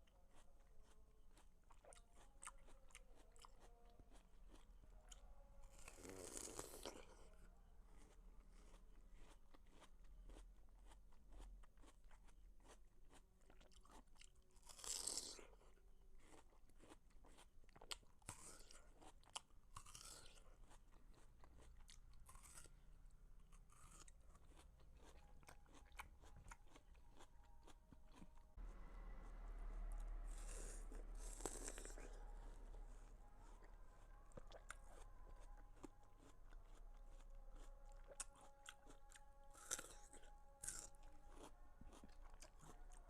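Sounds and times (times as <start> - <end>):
chewing watermelon crunches: 0.0 - 22.8, 23.4 - 43.0.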